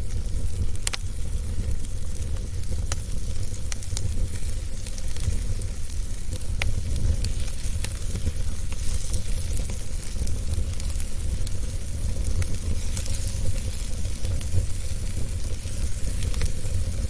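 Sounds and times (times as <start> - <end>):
fire crackles and pops: 0.0 - 17.0
fire flames rumbling and hissing: 0.0 - 17.0.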